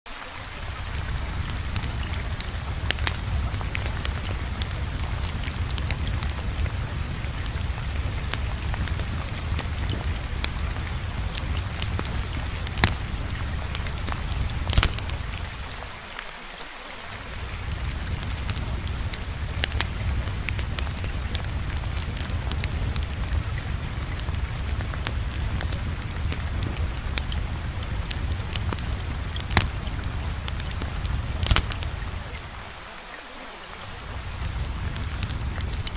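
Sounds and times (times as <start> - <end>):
rain-like rushing noise: 0.1 - 35.9
sharp crackles: 0.5 - 32.9, 33.7 - 35.9
low rumble: 0.6 - 15.9, 17.2 - 32.7, 33.9 - 35.9.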